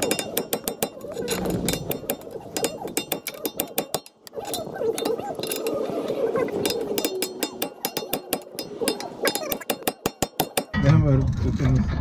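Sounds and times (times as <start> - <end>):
hand tools clicking on metal: 0.0 - 10.8.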